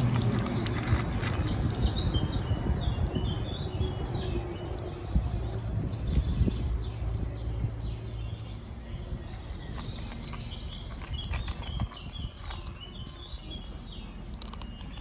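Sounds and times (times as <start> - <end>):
bird chirping: 0.0 - 15.0
kittens crunching dry kibble: 0.0 - 15.0
low rumble: 0.0 - 15.0.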